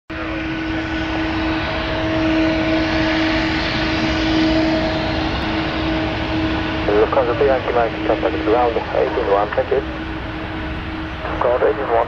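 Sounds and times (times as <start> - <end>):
jet engines roaring: 0.1 - 12.0.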